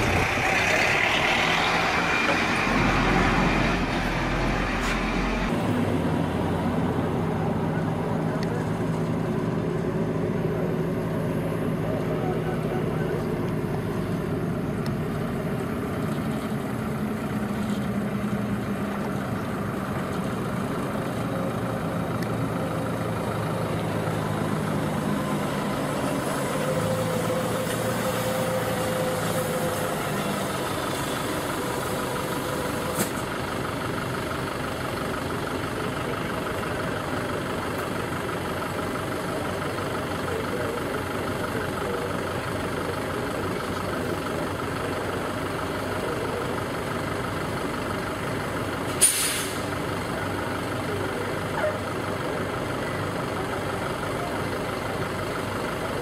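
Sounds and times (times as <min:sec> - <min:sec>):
truck diesel engines running: 0:00.0 - 0:56.0.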